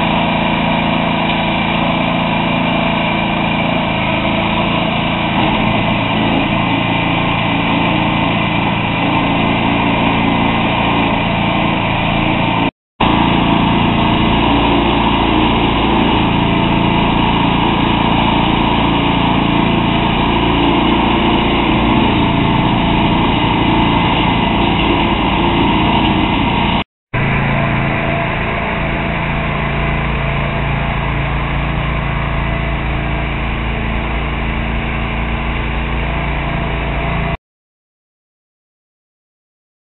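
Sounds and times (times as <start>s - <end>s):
engine running steadily: 0.0s - 37.4s.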